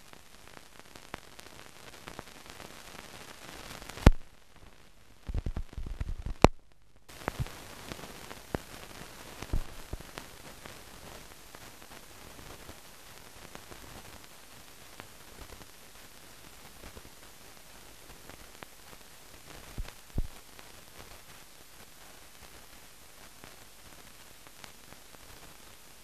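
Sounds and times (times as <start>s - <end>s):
film hiss and crackle: 0.0s - 26.0s.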